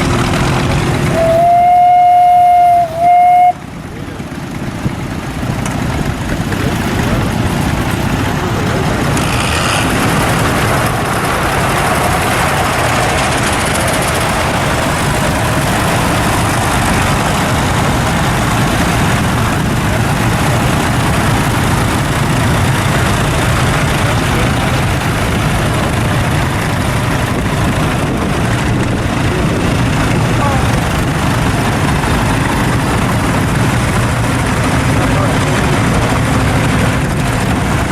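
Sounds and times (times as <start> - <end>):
tractor engine idling: 0.0 - 37.9.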